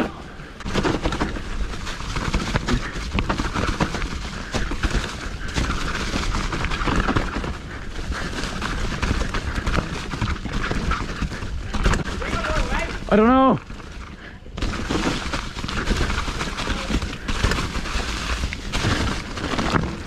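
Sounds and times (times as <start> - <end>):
bike tyres rolling on dirt: 0.0 - 20.0
bike and chain rattling: 0.1 - 20.0.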